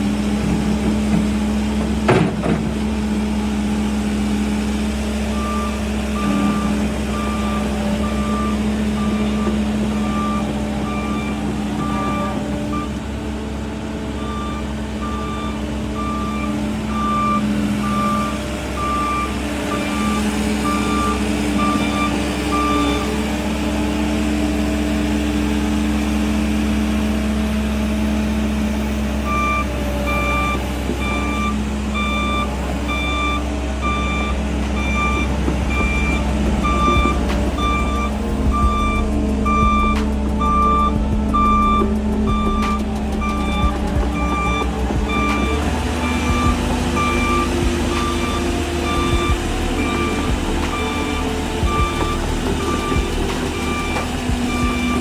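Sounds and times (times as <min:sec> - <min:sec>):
diesel engine running: 0:00.0 - 0:55.0
travel alarm beeping: 0:03.0 - 0:13.5, 0:14.1 - 0:23.5, 0:29.2 - 0:55.0.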